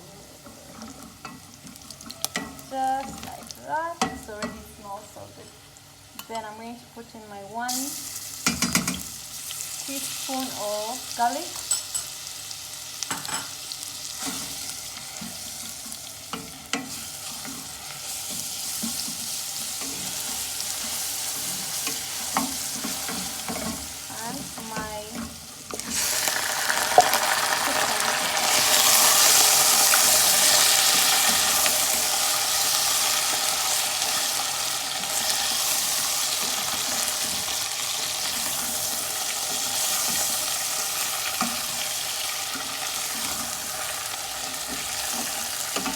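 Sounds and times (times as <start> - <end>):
food frying in hot oil: 0.0 - 6.3, 7.7 - 45.9.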